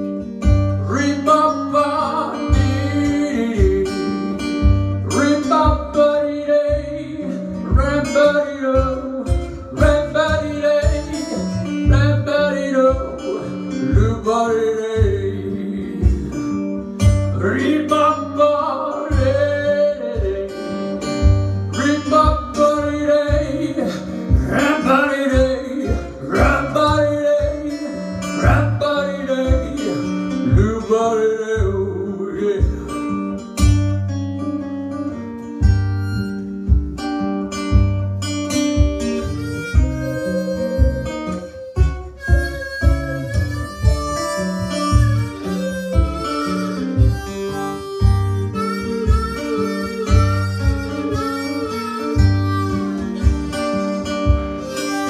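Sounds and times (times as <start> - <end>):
acoustic guitar picking: 0.0 - 55.0.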